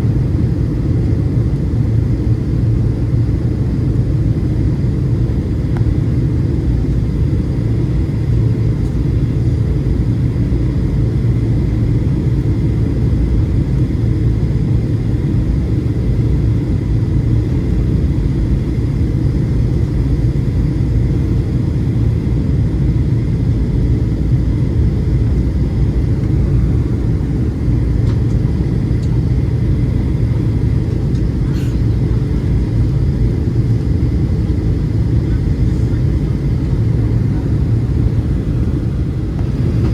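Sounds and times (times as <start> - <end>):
airplane engines and airflow in cabin: 0.0 - 39.9.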